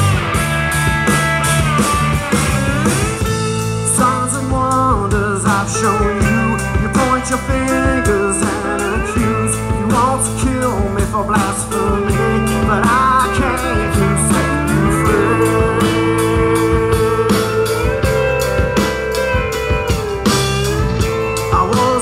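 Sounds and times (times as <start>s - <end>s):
bass guitar: 0.0s - 22.0s
bending lead guitar line: 0.0s - 22.0s
drum kit with cymbals: 0.0s - 22.0s
electric guitars: 0.0s - 22.0s.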